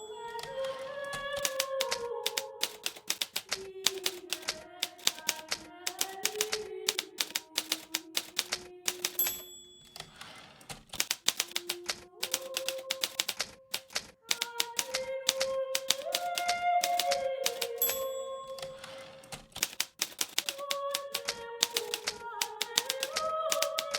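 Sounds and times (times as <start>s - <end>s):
typewriter keys clacking: 0.0s - 23.9s
typewriter margin bell ding: 0.0s - 23.9s
typewriter carriage return sliding: 0.6s - 23.9s.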